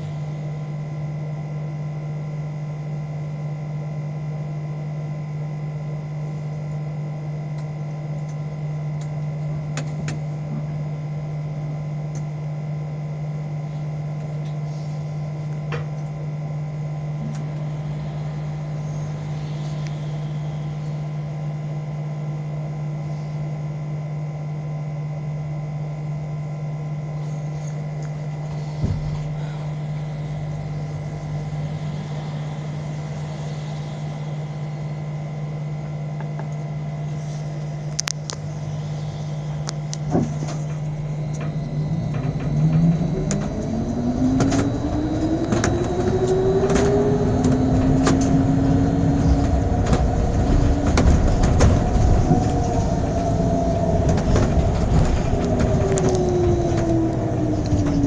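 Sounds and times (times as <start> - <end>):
electric bus humming and whining: 0.0 - 58.0.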